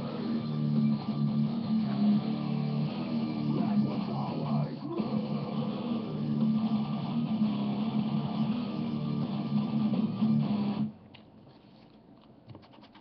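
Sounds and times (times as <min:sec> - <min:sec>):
guitar music: 0:00.0 - 0:10.9.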